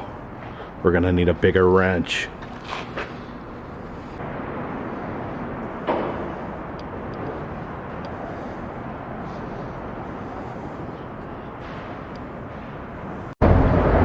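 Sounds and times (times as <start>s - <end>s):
steady rumbling background noise: 0.0s - 14.0s.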